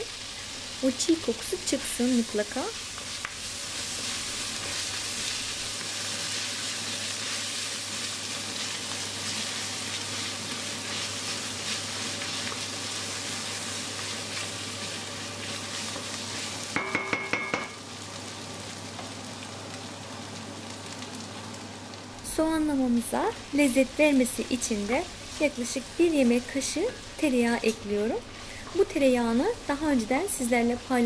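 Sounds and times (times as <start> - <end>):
onions sizzling in a pan: 0.0 - 31.0.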